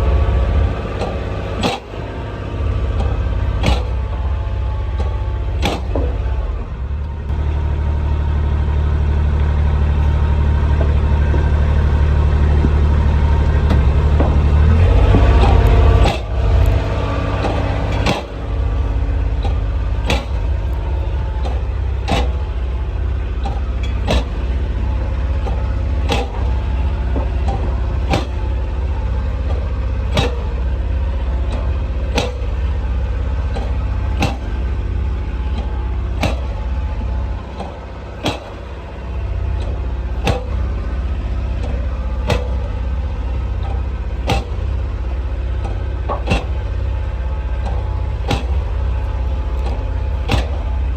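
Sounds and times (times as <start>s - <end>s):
utility vehicle engine rumbling: 0.0s - 50.9s.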